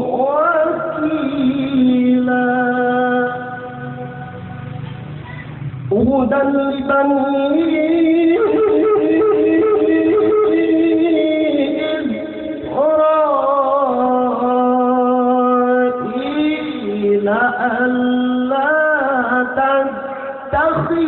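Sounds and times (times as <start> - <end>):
man chanting melodically: 0.0 - 4.8, 5.9 - 21.0.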